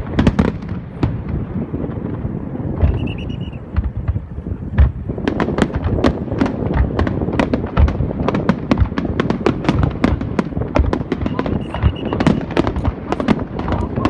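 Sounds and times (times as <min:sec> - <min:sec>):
fireworks cracking and banging: 0:00.0 - 0:14.0
low booming explosions: 0:00.0 - 0:14.0.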